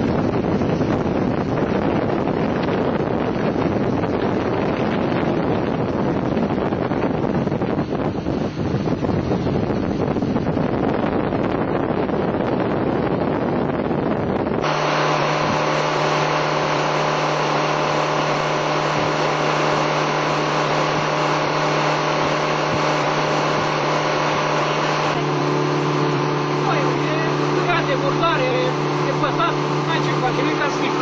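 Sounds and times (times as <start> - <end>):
boat engine humming: 0.0 - 31.0
rush of boat wake: 0.0 - 31.0
wind buffeting microphone: 0.0 - 31.0.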